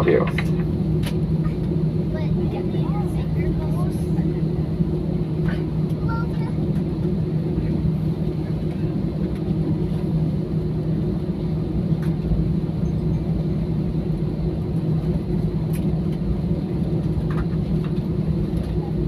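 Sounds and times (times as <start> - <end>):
airliner cabin engine drone: 0.0 - 19.0
steady hum tones: 0.0 - 19.0.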